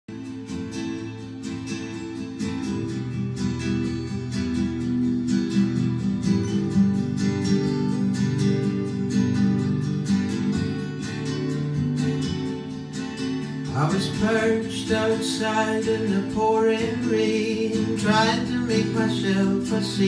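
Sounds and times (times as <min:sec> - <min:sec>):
strummed acoustic guitar pop song: 0:00.1 - 0:20.0.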